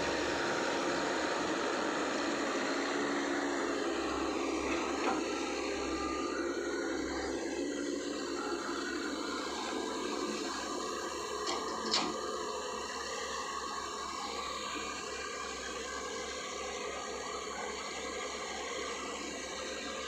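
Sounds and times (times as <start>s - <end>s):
diesel machinery running: 0.0s - 20.0s.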